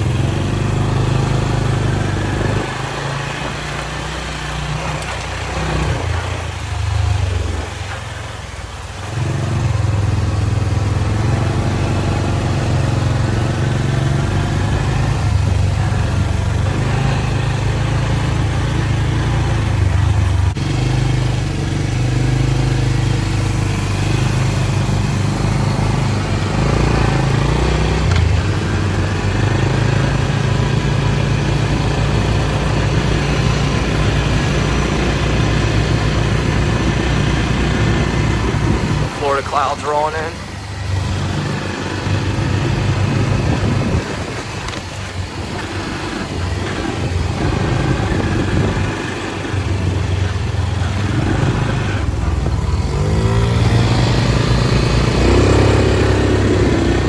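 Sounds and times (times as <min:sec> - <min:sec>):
four-wheeler engine under load: 0:00.0 - 0:57.0.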